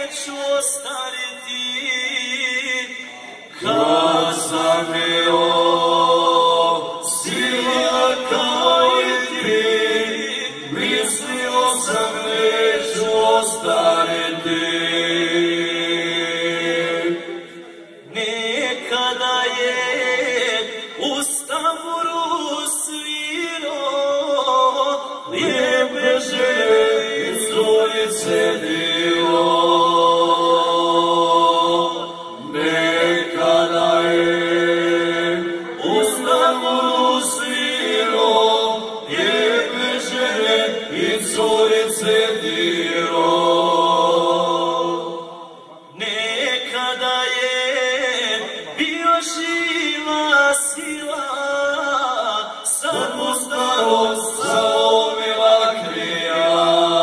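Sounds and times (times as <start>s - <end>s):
men singing in harmony: 0.0s - 57.0s.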